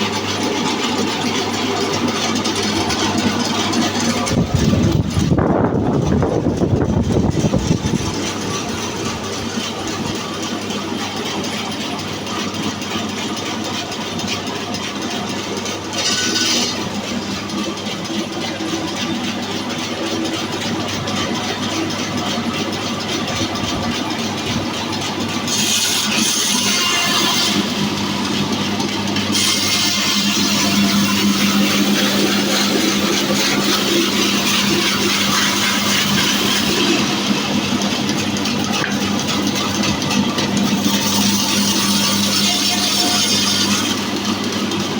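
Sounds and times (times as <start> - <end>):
band saw running: 0.0 - 44.9.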